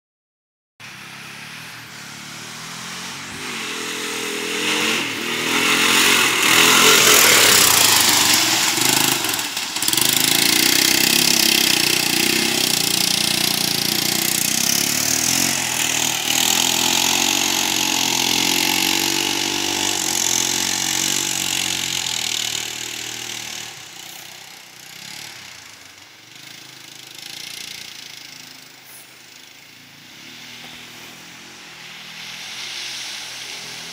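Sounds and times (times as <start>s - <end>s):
quad bike engine revving: 0.8s - 33.9s.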